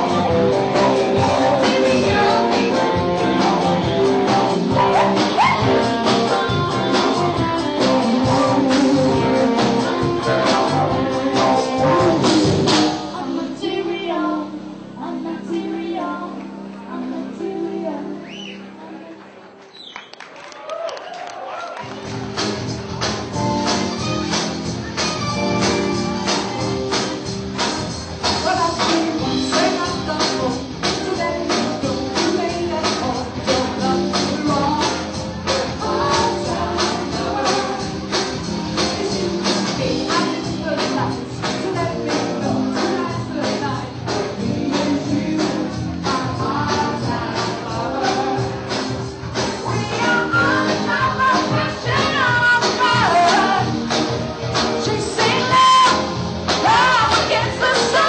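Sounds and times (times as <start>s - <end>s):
live band playing disco: 0.0s - 16.2s, 21.8s - 58.0s
person singing: 0.0s - 19.3s, 28.3s - 54.0s, 54.7s - 58.0s.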